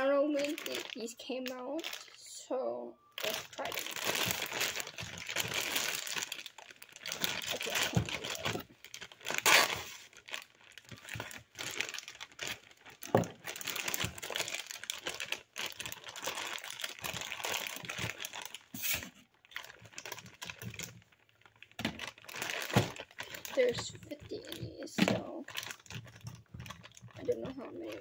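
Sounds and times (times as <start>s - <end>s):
plastic bag crinkling: 0.0s - 2.3s, 3.0s - 28.0s.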